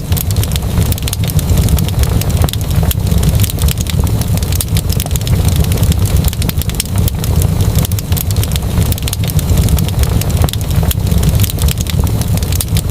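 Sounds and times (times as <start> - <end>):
wood fire crackling: 0.0 - 12.9.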